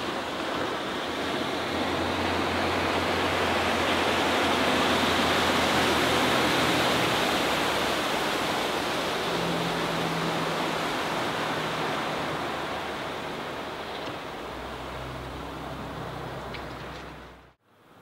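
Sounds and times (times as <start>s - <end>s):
boat engine drone: 0.0s - 17.6s
water and wind rushing: 0.0s - 17.6s.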